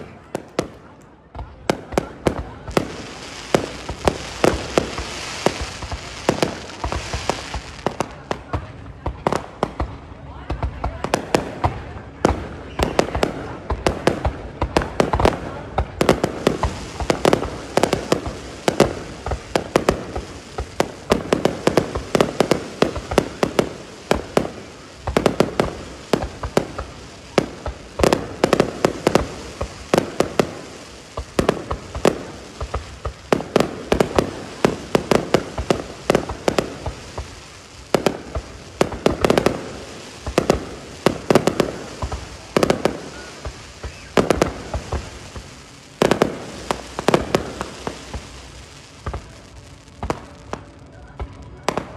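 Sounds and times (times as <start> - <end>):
fireworks bangs and pops: 0.0 - 51.9.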